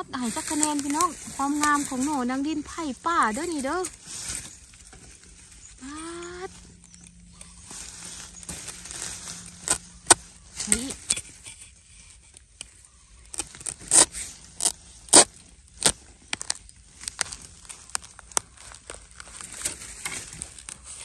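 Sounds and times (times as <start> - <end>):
soil and dry leaves crackling: 0.0 - 21.0.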